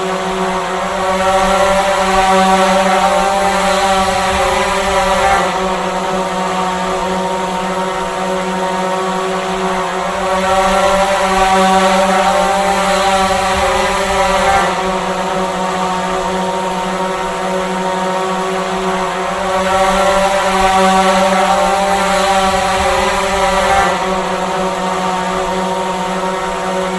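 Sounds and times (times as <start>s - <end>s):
drone propellers buzzing: 0.0s - 26.9s.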